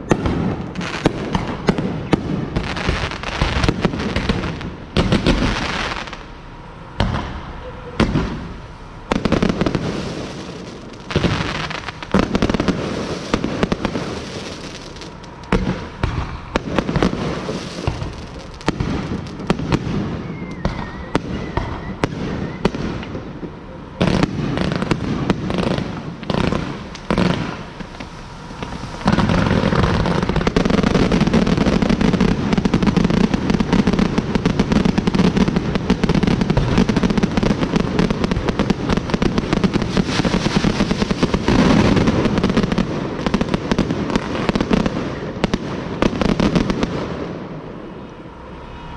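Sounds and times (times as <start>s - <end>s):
fireworks bangs: 0.0s - 48.6s.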